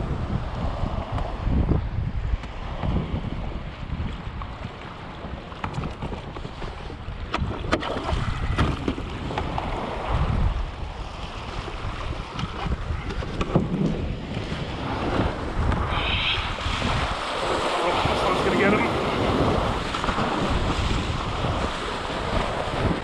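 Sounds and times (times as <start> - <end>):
water washing around kayak hull: 0.0 - 23.0
wind buffeting microphone: 0.0 - 23.0
small waves breaking: 2.4 - 23.0.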